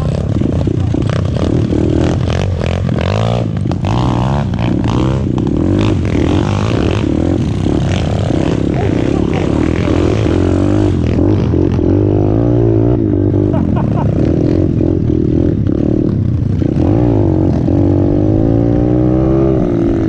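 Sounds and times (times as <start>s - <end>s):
bike rattling over bumps: 0.0s - 18.0s
motorbike engine revving: 0.0s - 20.0s.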